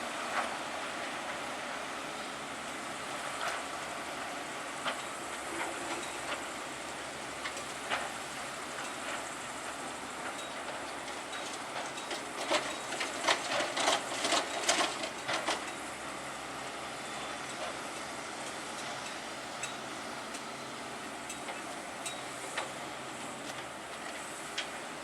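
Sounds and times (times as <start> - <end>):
heavy construction machinery running: 0.0 - 25.0.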